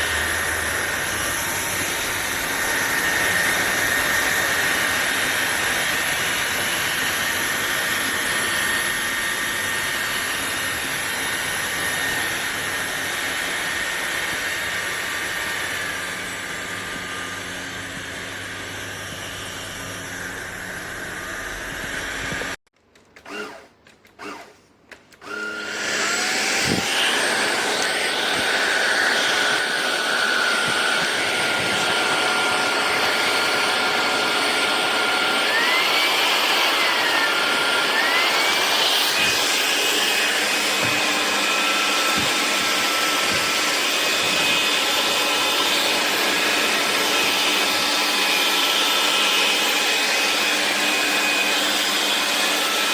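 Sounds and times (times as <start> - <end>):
stick vacuum running: 0.0 - 52.9.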